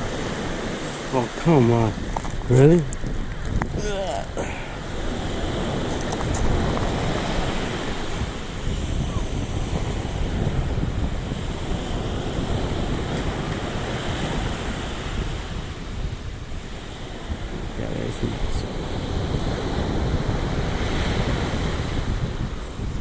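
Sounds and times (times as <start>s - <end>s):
surf washing onto beach: 0.0s - 23.0s
wind buffeting microphone: 0.0s - 23.0s.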